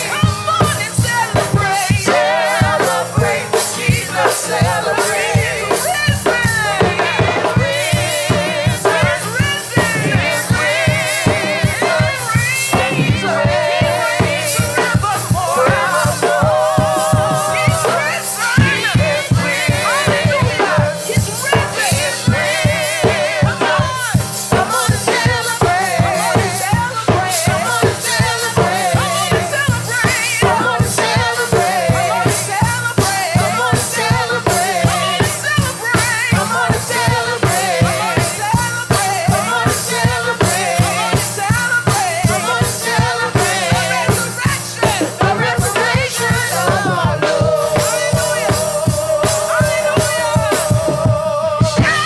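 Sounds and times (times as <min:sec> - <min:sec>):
band with steady drum beat: 0:00.0 - 0:52.0
worship team singing: 0:00.0 - 0:52.0.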